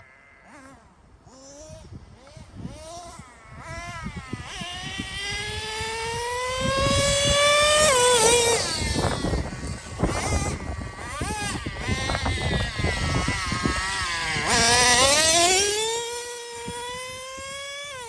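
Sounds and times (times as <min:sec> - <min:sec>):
rc truck engine revving: 0:00.0 - 0:18.0.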